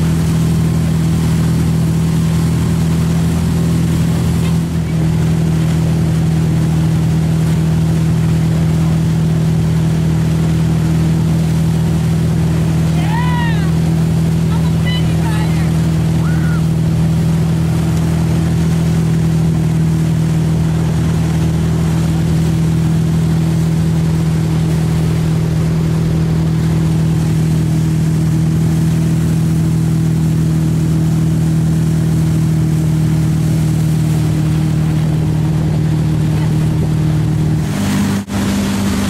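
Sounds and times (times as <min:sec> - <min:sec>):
boat engine droning: 0:00.0 - 0:39.0
rushing wake water: 0:00.0 - 0:39.0.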